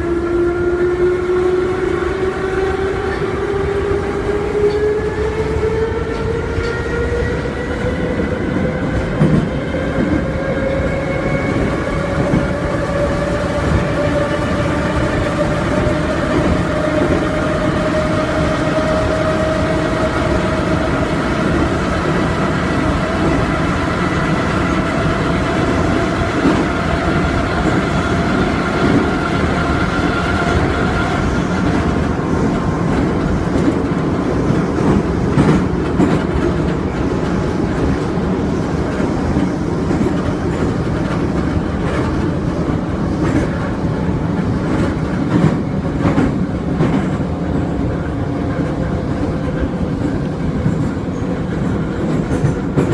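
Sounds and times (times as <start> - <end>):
train rumble: 0.0 - 52.9.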